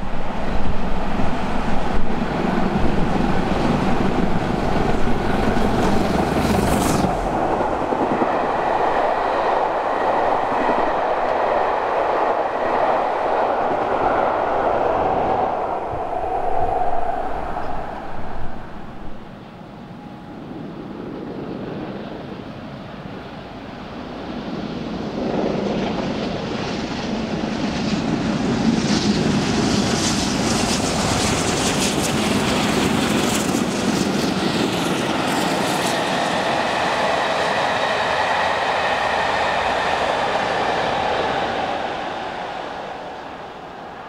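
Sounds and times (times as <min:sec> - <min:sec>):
steam train passing at speed: 0:00.0 - 0:44.0.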